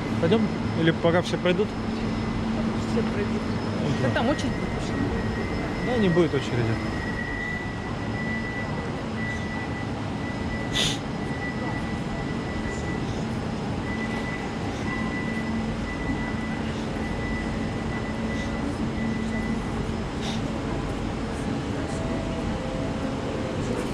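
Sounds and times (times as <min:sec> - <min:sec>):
electric train hum and whine: 0:00.0 - 0:23.9.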